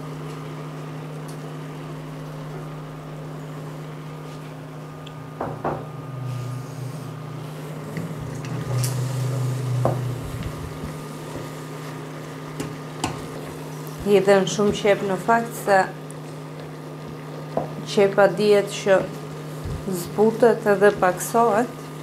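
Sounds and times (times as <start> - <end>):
induction hob electrical hum: 0.0 - 22.0.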